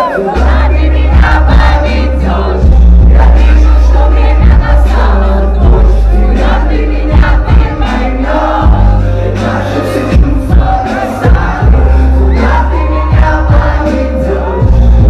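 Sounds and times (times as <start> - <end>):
drum beat: 0.0 - 15.0
heavy bass line: 0.0 - 15.0
live pop music: 0.0 - 15.0
voices singing along: 0.0 - 15.0.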